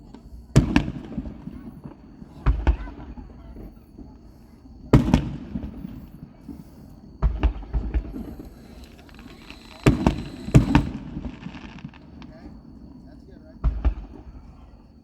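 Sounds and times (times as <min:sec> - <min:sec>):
fireworks booming: 0:00.0 - 0:14.9
small fireworks pops: 0:00.0 - 0:15.0.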